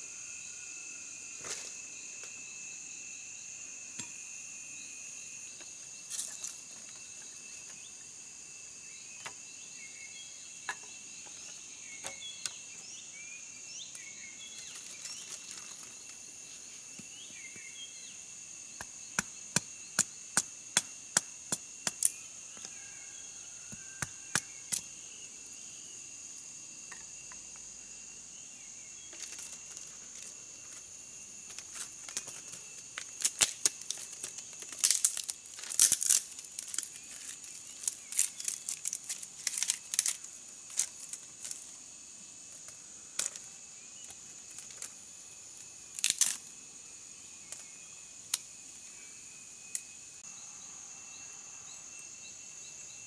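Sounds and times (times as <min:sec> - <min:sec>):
insect trill: 0:00.0 - 0:53.0.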